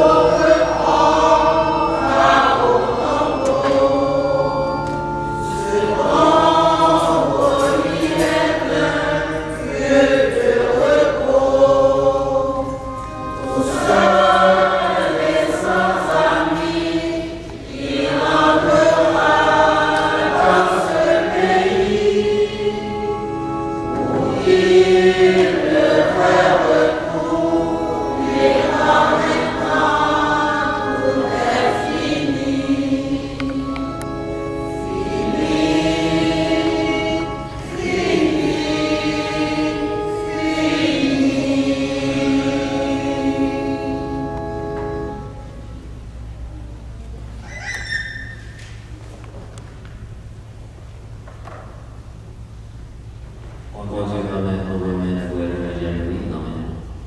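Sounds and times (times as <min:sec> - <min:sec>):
choir singing a hymn: 0:00.0 - 0:46.2.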